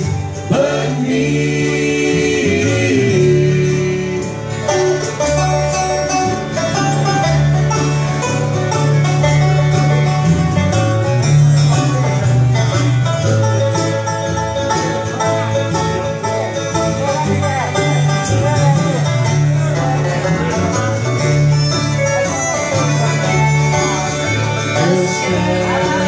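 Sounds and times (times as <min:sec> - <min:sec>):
acoustic guitars picking: 0:00.0 - 0:26.0
upright bass: 0:00.0 - 0:26.0.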